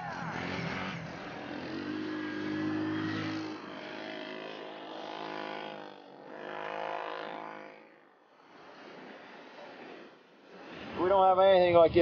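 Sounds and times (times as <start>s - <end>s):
quad engine revving: 0.0s - 11.1s.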